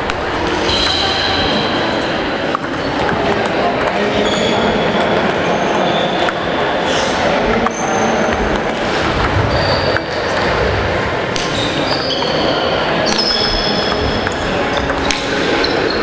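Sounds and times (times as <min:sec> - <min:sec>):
hubbub in sports hall: 0:00.0 - 0:16.0
table tennis balls clicking: 0:00.0 - 0:16.0.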